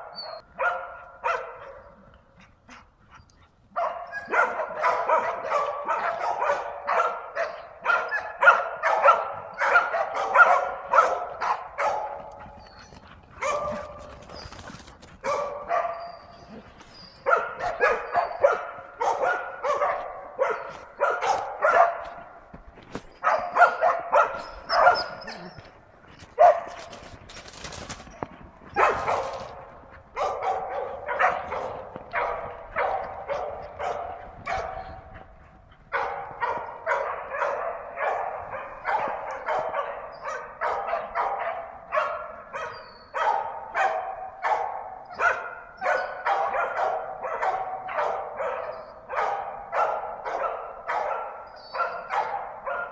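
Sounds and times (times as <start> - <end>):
dogs barking rapidly: 0.0 - 52.9.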